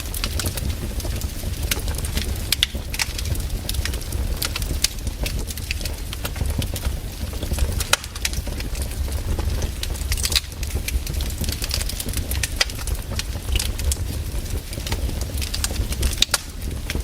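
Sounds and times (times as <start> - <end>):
fire rumbling: 0.0 - 17.0
wood fire crackling and popping: 0.0 - 17.0.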